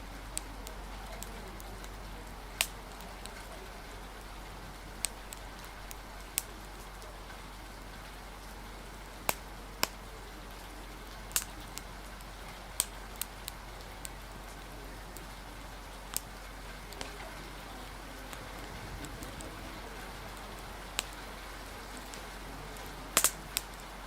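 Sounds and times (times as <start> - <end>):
fire crackling and popping: 0.0 - 24.0
rain hiss: 0.0 - 24.0.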